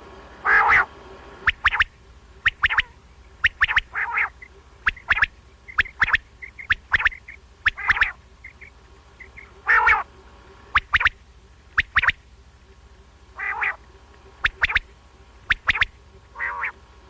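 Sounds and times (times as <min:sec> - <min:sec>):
quail calling: 0:00.4 - 0:16.8.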